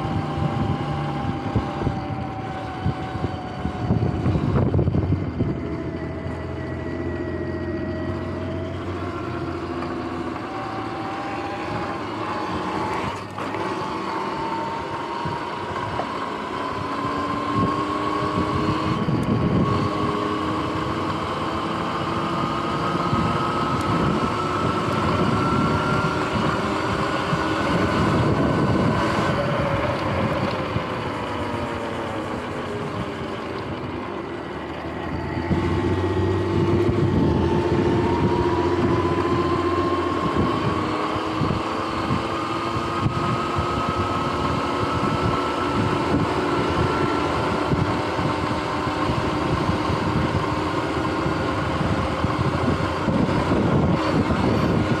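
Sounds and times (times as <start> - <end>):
tyre and wind noise: 0.0 - 6.8, 10.4 - 55.0
electric motor whining: 0.0 - 55.0.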